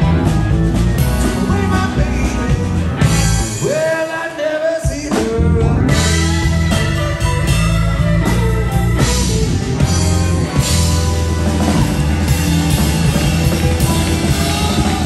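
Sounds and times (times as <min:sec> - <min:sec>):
electric bass: 0:00.0 - 0:03.9, 0:04.9 - 0:15.0
drum kit: 0:00.0 - 0:15.0
electric guitar: 0:00.0 - 0:15.0.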